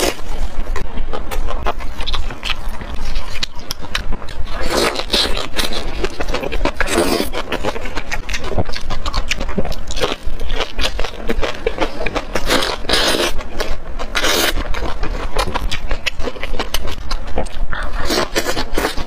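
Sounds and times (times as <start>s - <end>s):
wet chewing and biting: 0.0s - 19.0s.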